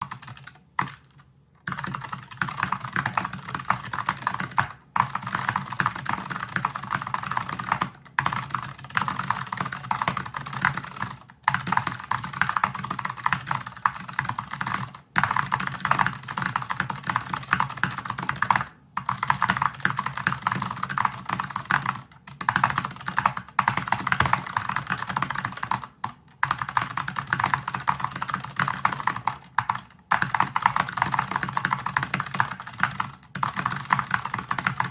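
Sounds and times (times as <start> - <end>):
fast typing on clicky keyboard: 0.0 - 34.9.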